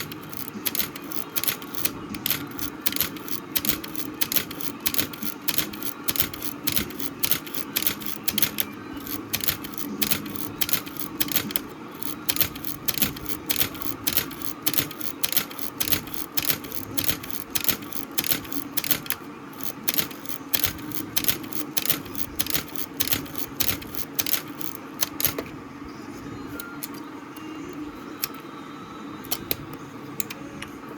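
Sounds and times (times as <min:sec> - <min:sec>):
film advance lever winding: 0:00.0 - 0:25.4.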